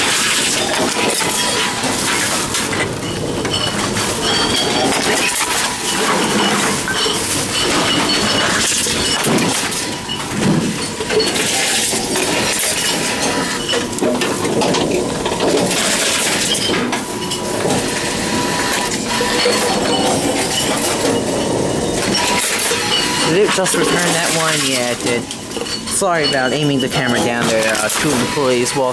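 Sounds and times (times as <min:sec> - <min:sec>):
cans and bottles clattering: 0:00.0 - 0:28.9
machine running noise: 0:00.0 - 0:28.9.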